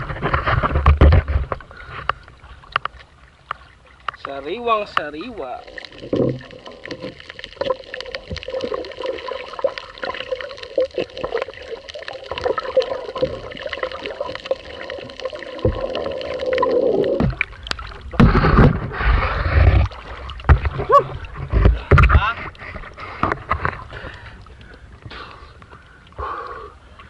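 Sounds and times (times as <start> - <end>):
steady underwater hum: 0.0 - 27.0
water sloshing and splashing: 0.0 - 27.0
underwater crackle of clicks: 0.2 - 18.2, 23.1 - 27.0.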